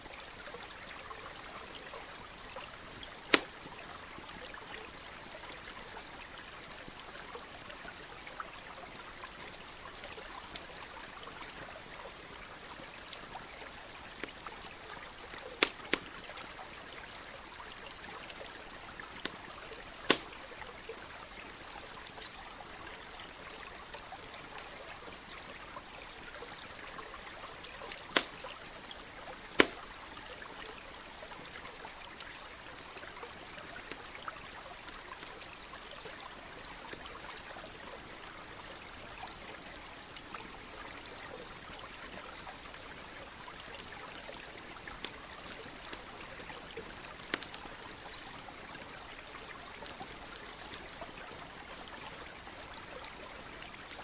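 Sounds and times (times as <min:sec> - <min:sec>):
flowing stream: 0:00.0 - 0:54.0
wood fire crackling and popping: 0:00.2 - 0:25.2, 0:25.8 - 0:54.0.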